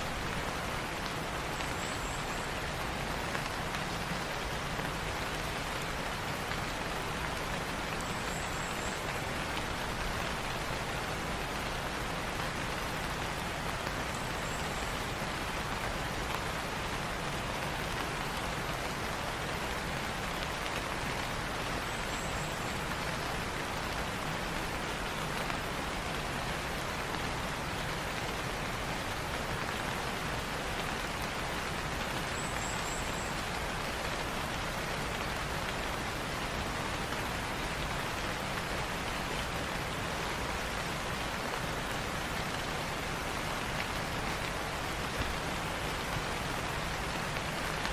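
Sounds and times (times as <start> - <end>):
light rain falling: 0.0 - 47.9.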